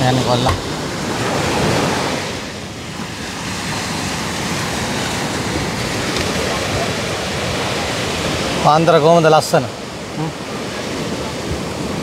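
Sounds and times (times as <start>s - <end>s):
sea waves breaking: 0.0s - 12.0s
wind: 0.0s - 12.0s.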